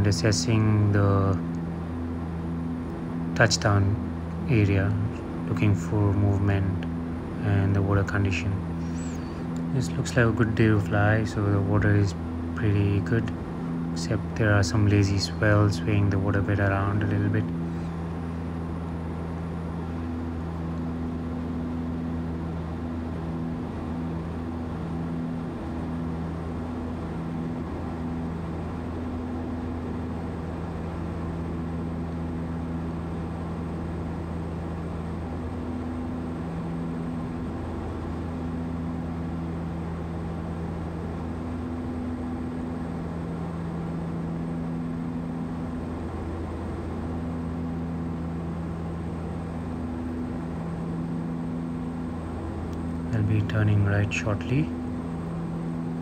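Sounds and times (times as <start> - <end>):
turboprop engines droning: 0.0 - 56.0.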